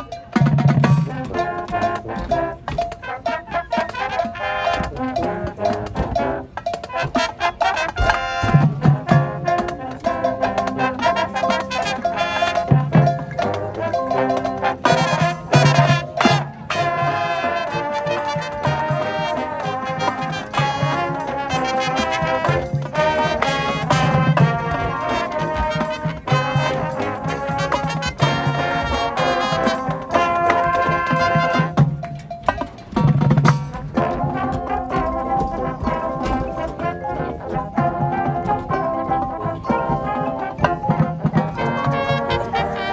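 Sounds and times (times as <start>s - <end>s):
marching band playing: 0.0s - 42.9s
sharp percussion hits: 0.0s - 42.9s.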